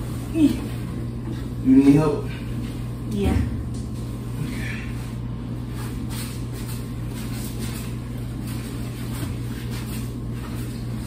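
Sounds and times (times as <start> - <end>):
laundry machines humming: 0.0 - 11.0.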